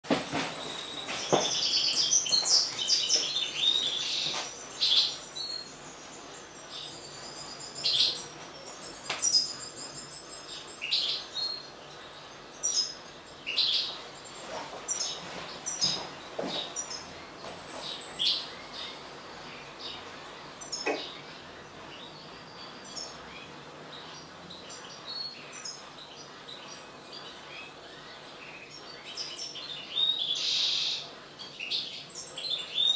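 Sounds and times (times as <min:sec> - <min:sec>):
finch twittering and calling: 0:00.3 - 0:32.9.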